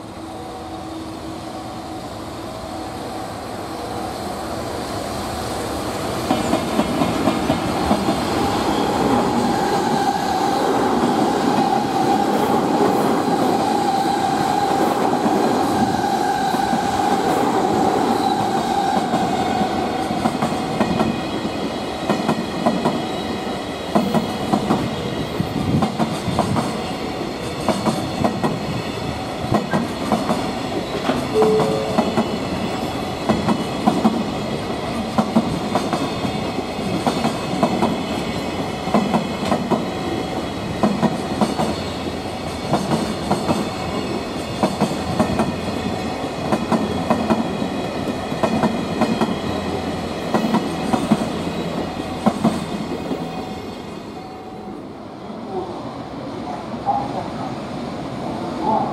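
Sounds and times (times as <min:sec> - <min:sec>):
freight train passing: 0:00.0 - 0:58.9.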